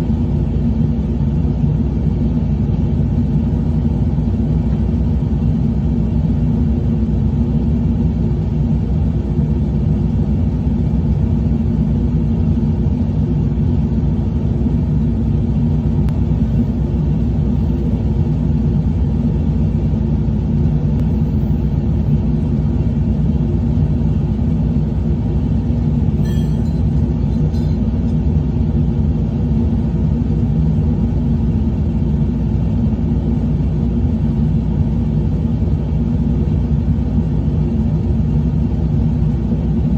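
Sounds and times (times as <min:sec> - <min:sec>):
truck engine droning: 0:00.0 - 0:39.8.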